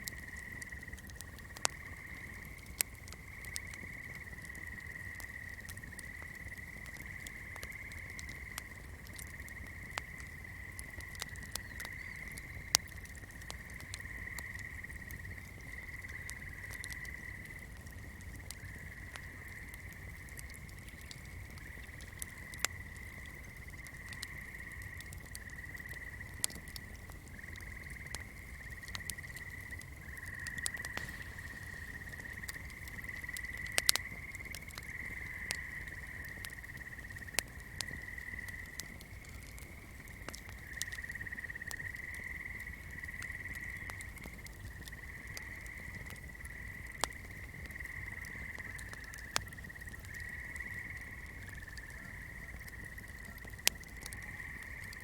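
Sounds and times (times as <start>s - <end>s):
fire crackling and popping: 0.0s - 55.0s
frogs chorusing: 0.0s - 55.0s.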